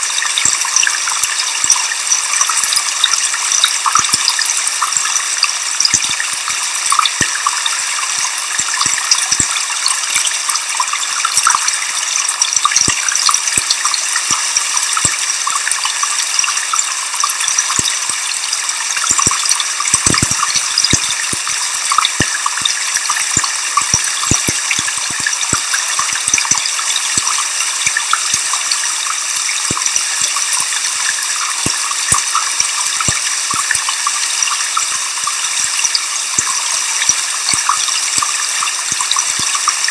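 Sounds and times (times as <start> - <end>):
water splashes and drips: 0.0 - 39.9
waterfall pouring: 0.0 - 39.9.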